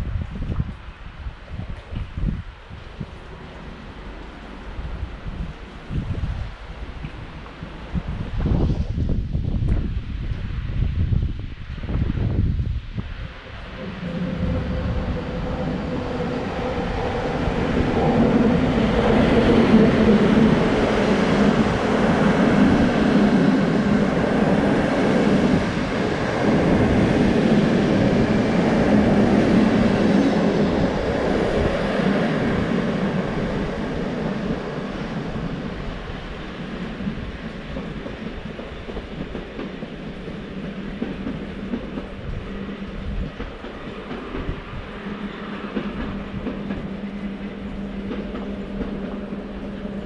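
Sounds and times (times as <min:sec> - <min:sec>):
passenger train passing: 0:00.0 - 0:50.0.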